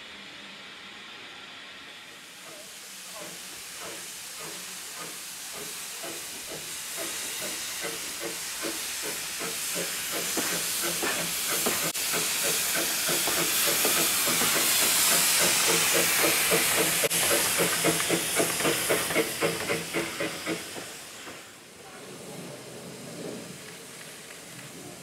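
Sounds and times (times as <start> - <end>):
hiss of steam: 0.0 - 25.0
steam locomotive exhaust chuffing: 0.2 - 21.7.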